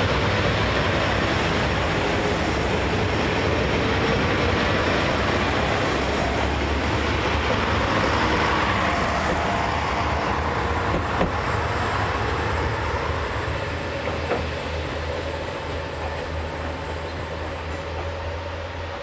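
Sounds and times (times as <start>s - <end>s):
diesel train rumbling past: 0.0s - 19.0s.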